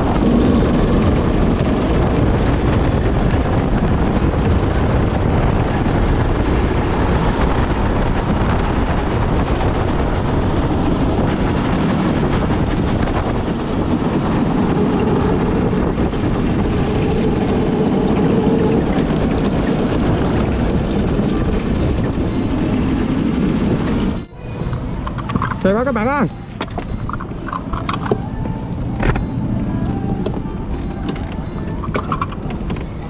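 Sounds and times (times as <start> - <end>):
wind noise: 0.0 - 33.0.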